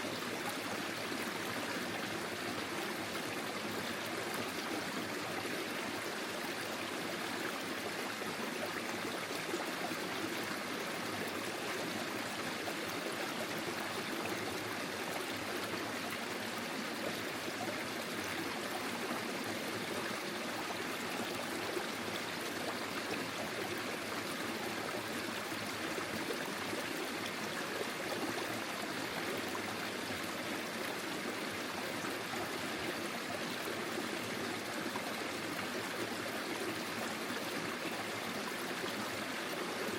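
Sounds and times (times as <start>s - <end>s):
stream flowing over its bed: 0.0s - 39.9s.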